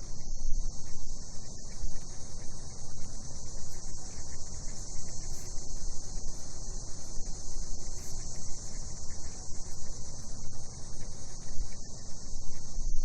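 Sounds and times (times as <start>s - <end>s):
cicadas buzzing: 1.3s - 12.3s.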